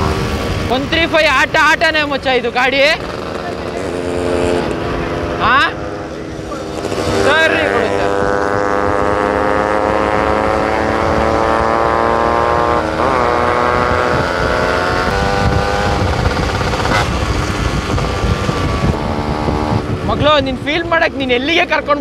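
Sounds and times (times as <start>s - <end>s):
two-stroke motorcycle engine running: 1.3s - 20.4s.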